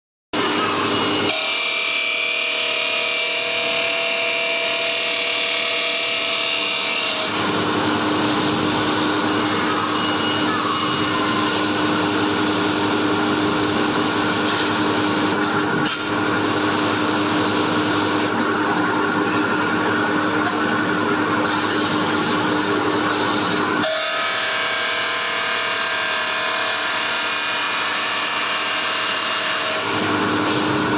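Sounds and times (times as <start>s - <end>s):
grinding machine grinding steel: 0.4s - 30.9s.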